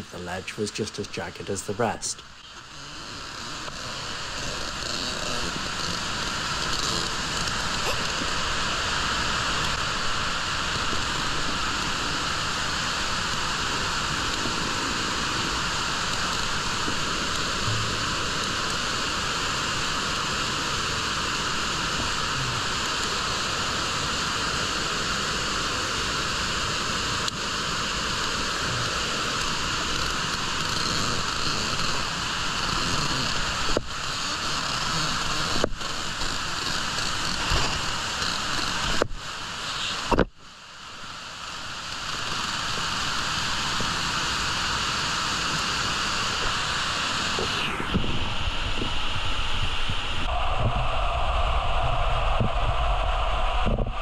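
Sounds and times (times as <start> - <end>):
waterfall rushing in a cave: 3.0 - 54.0.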